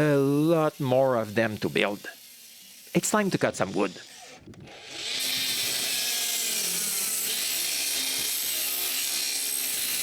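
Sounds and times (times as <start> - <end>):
power saw cutting lumber: 0.0 - 10.0.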